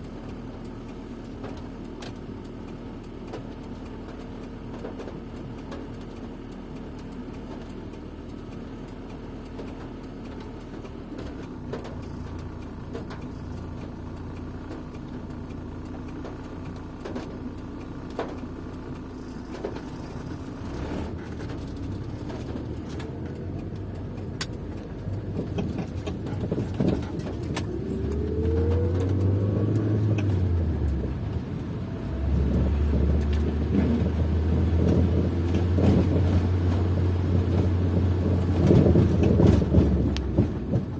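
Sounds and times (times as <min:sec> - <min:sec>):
car engine and road hum: 0:00.0 - 0:40.9.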